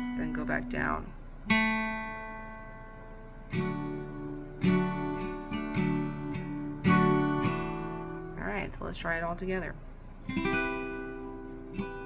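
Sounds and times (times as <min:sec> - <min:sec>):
guitar note and strummed chords: 0:00.0 - 0:12.0.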